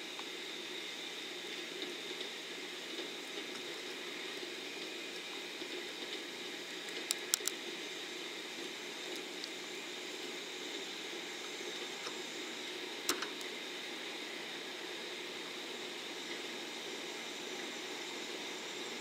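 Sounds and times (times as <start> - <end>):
distant train running noise: 0.0 - 19.0.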